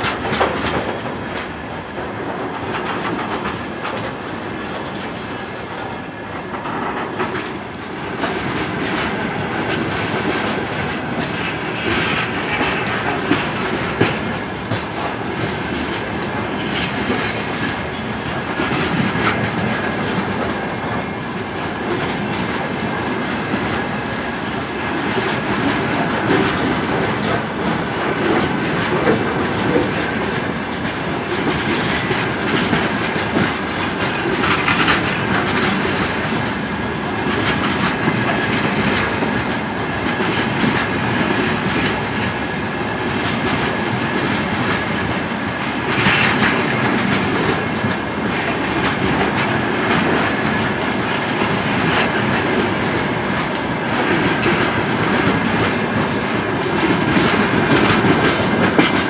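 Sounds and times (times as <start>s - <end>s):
train wheels clickety-clack: 0.0s - 59.0s.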